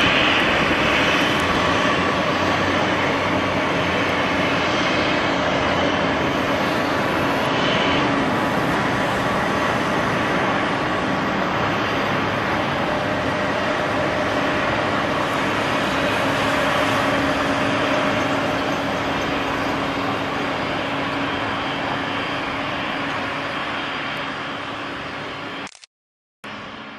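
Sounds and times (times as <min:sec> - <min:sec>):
jet airliner engines running: 0:00.0 - 0:25.9, 0:26.5 - 0:26.9.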